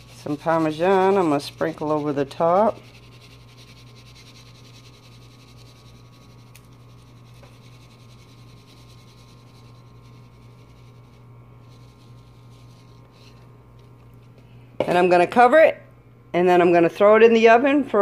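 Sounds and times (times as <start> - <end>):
low hum with faint hiss: 0.0 - 18.0.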